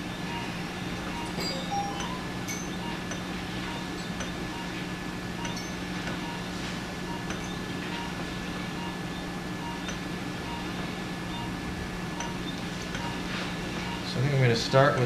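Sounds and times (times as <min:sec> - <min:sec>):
equipment hum with high tone: 0:00.0 - 0:15.0.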